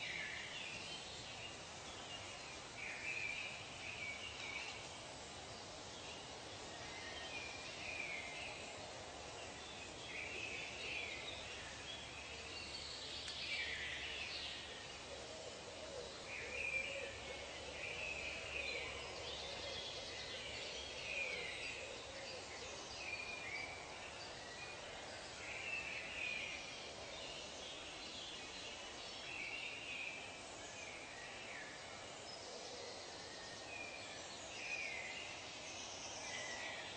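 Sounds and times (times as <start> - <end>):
soft steady hiss: 0.0 - 36.9.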